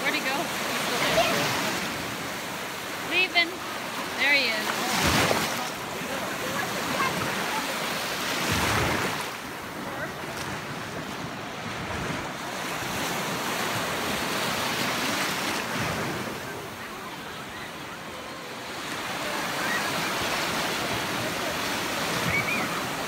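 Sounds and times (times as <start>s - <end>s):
small waves washing over sand: 0.0s - 23.0s.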